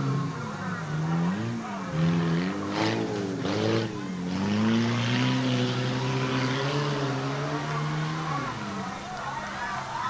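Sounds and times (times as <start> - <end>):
race car engine revving: 0.0 - 9.9.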